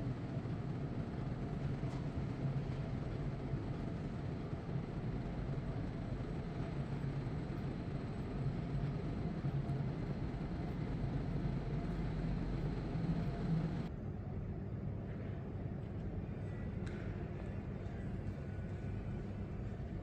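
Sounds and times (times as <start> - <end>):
low hum and rumble in tunnel: 0.0 - 20.0.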